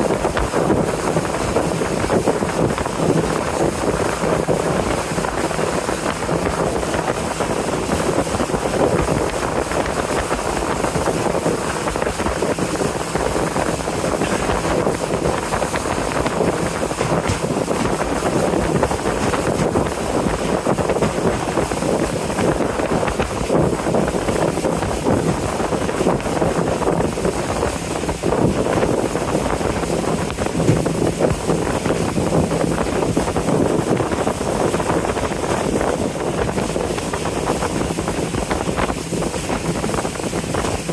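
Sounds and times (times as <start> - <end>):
boat engine drone: 0.0 - 40.9
water rushing: 0.0 - 40.9
wind on microphone: 0.0 - 40.9.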